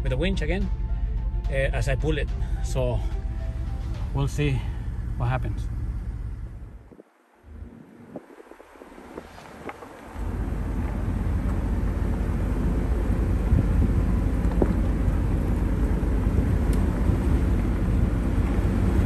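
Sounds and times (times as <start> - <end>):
truck engine low rumble: 0.0 - 19.0.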